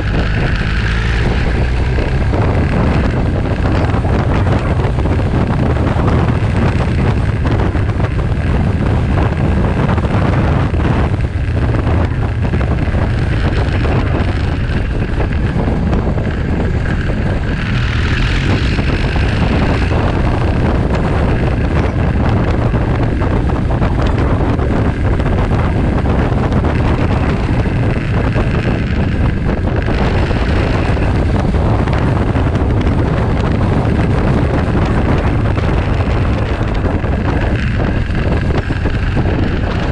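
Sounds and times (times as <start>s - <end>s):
motorcycle engine: 0.0s - 39.9s
wind noise on microphone: 0.0s - 39.9s.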